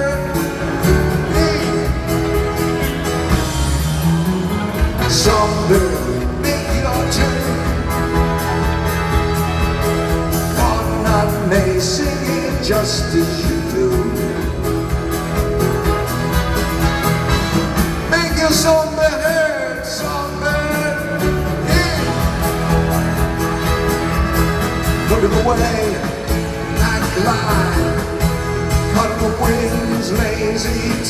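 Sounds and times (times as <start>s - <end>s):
live band music: 0.0s - 31.0s.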